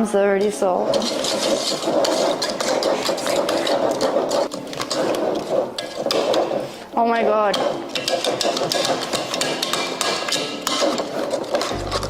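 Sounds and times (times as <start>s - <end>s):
utensil clattering against bowl: 0.9s - 6.7s, 7.4s - 11.8s.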